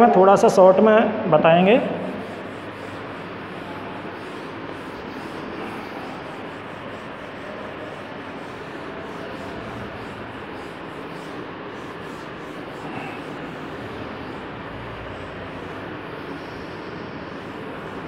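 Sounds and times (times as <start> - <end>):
duster scrubbing a blackboard: 1.5 - 18.0.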